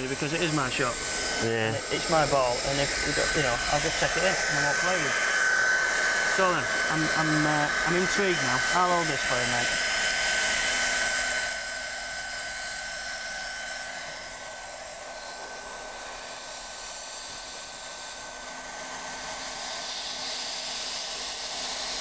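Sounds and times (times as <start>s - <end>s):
faint steady whine: 0.0s - 22.0s
hot-air gun hissing: 0.0s - 22.0s.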